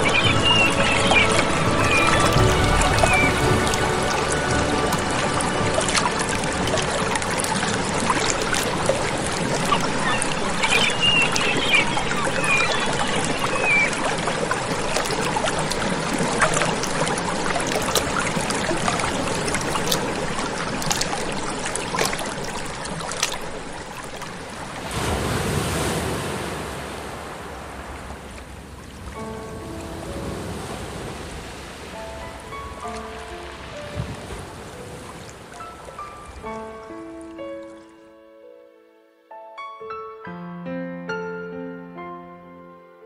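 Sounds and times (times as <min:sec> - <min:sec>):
waves lapping with splashes: 0:00.0 - 0:38.0.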